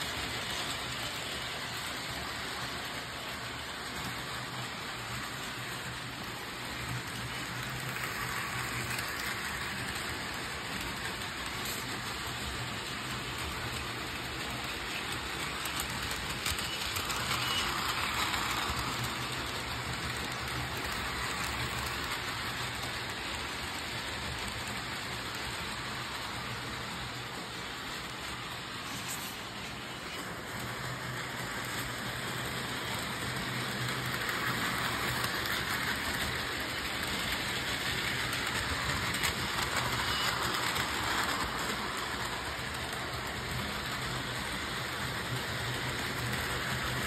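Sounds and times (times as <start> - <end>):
model train wheels rattling: 0.0 - 47.0.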